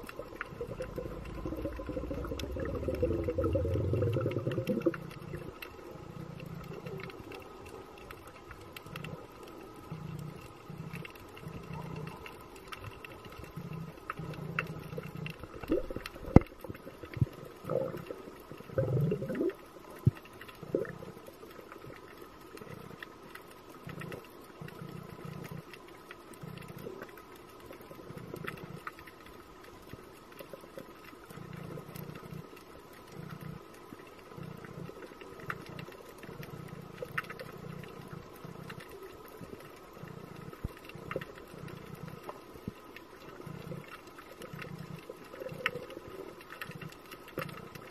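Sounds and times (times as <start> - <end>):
faint underwater hum: 0.0 - 47.9.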